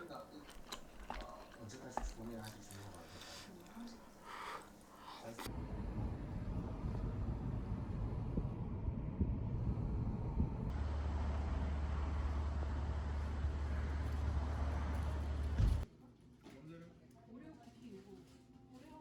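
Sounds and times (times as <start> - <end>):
moving vehicle rumble: 0.0 - 15.8.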